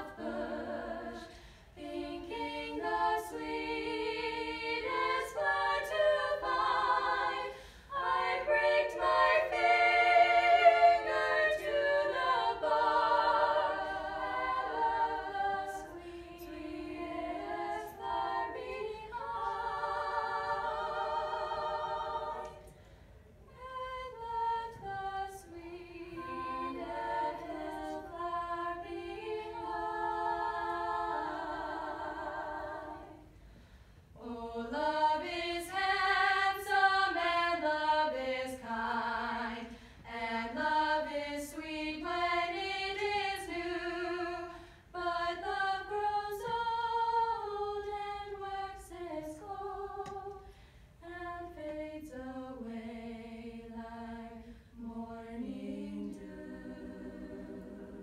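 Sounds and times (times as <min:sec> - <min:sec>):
girls singing in close harmony: 0:00.0 - 0:58.0.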